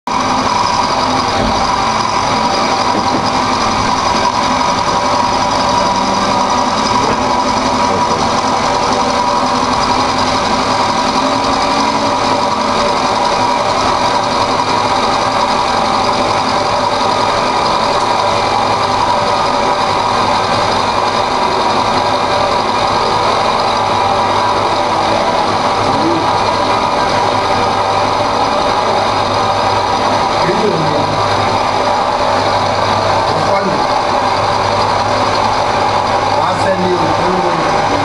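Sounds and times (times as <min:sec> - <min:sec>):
milling machine whirring: 0:00.1 - 0:38.0.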